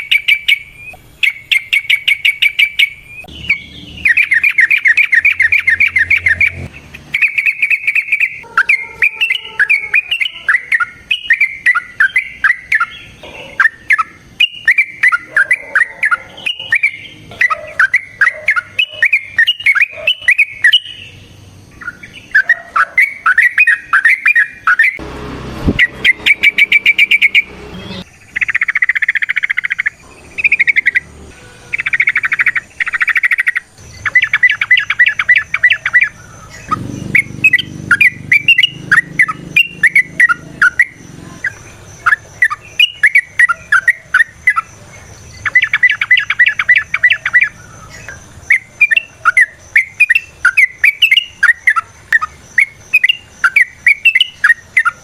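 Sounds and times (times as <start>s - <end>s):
bird singing rattling chatter: 0.0s - 25.0s, 25.8s - 55.0s.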